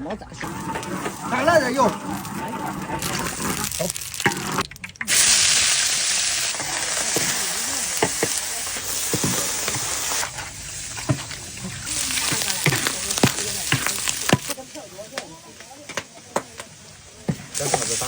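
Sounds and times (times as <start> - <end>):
food sizzling in oil: 0.4 - 18.0.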